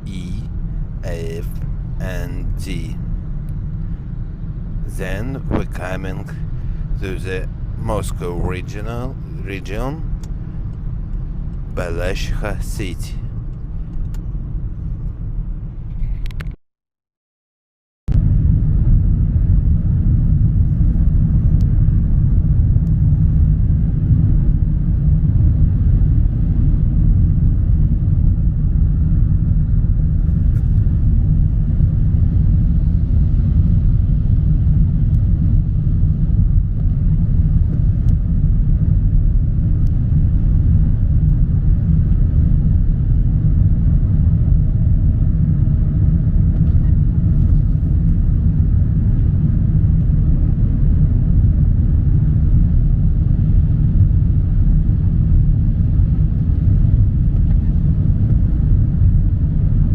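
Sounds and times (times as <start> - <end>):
car road and engine rumble: 0.0 - 16.5, 18.2 - 59.9.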